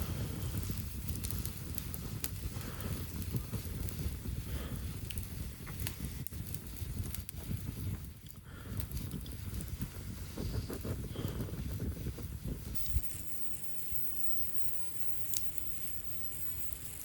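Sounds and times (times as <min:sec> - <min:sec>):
campfire crackling: 0:00.0 - 0:17.0
sharp fire pops: 0:00.0 - 0:17.0
wind rumble on microphone: 0:00.0 - 0:17.0.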